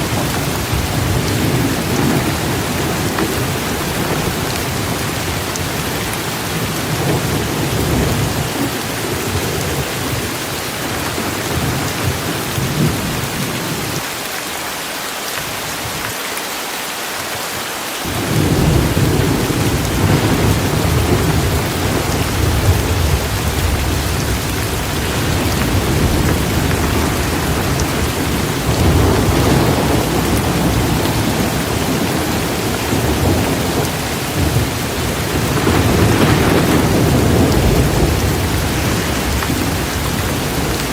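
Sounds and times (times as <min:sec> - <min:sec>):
low rolling thunder: 0:00.0 - 0:14.0, 0:18.0 - 0:40.9
heavy rain: 0:00.0 - 0:40.9.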